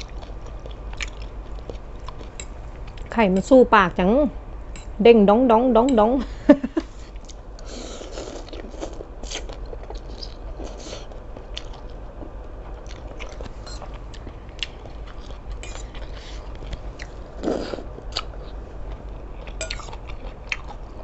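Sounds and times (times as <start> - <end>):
wet chewing with clicks: 0.0 - 3.2, 7.2 - 21.0.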